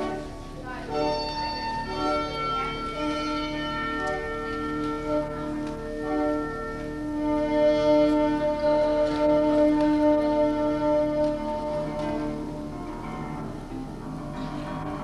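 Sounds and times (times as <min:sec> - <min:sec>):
music of long held chords: 0:00.0 - 0:15.0.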